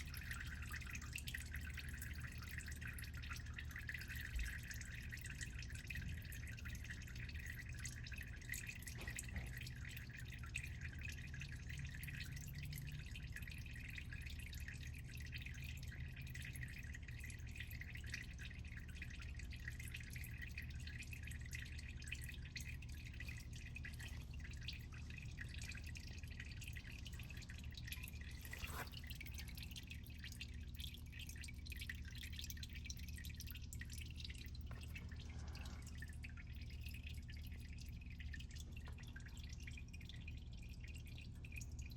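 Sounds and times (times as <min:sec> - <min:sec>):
oil dripping: 0:00.0 - 0:41.9.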